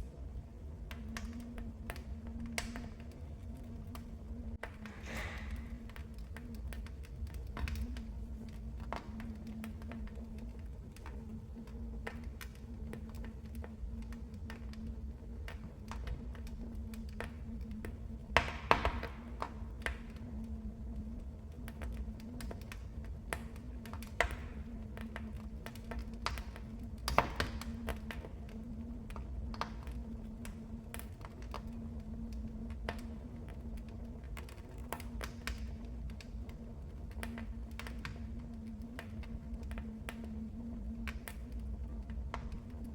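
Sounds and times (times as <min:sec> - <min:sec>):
fire snaps: 0:00.0 - 0:42.9
steady low rumble: 0:00.0 - 0:42.9
wood fire crackling: 0:00.0 - 0:42.9.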